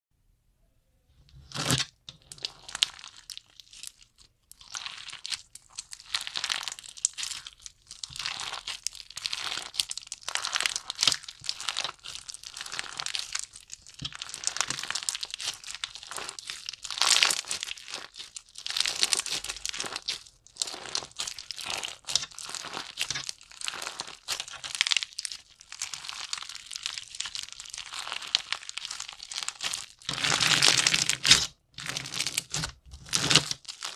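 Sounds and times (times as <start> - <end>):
slime crackling and popping: 1.5 - 33.9.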